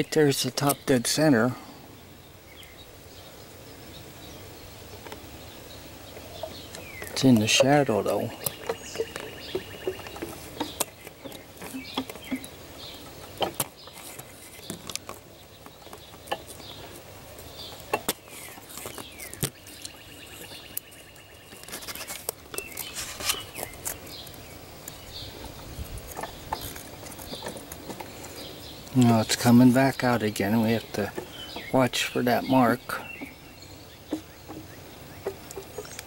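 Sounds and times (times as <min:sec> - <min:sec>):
faint chirps: 0:00.0 - 0:36.0.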